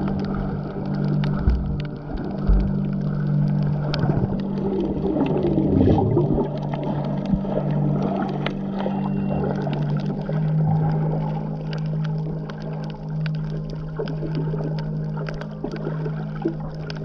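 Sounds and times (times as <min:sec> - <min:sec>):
boat engine drone: 0:00.0 - 0:17.0
water splashing along hull: 0:00.0 - 0:17.0.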